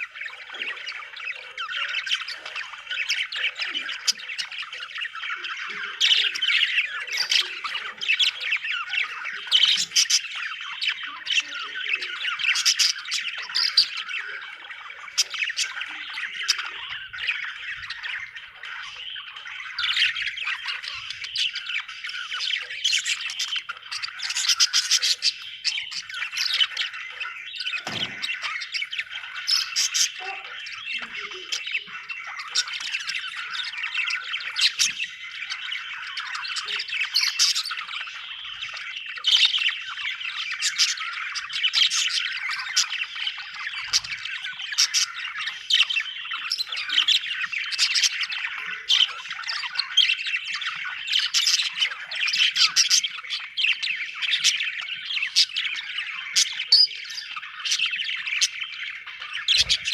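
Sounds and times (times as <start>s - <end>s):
budgerigars chirping and warbling: 0.0s - 59.9s.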